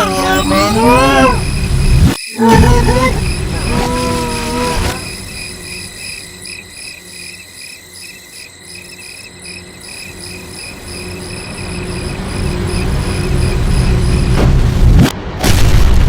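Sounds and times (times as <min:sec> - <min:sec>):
cricket chirping: 0:00.0 - 0:14.8.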